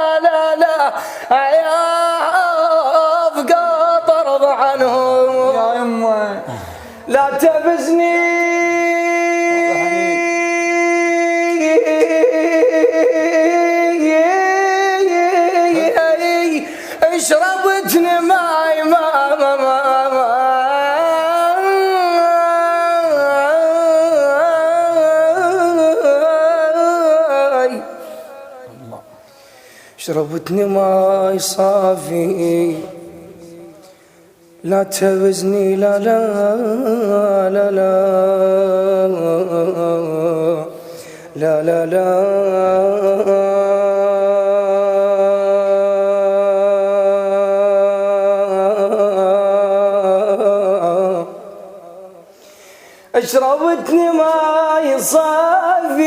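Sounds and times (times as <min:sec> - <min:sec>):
man chanting: 0:00.0 - 0:29.3, 0:30.0 - 0:52.2, 0:53.1 - 0:56.0
man singing melismatic notes: 0:00.0 - 0:52.3, 0:53.1 - 0:56.0.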